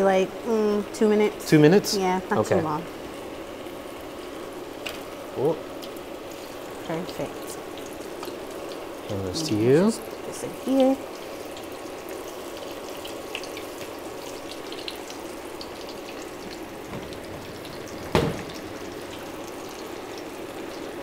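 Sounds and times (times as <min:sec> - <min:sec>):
food deep-frying in hot oil: 0:00.0 - 0:21.0.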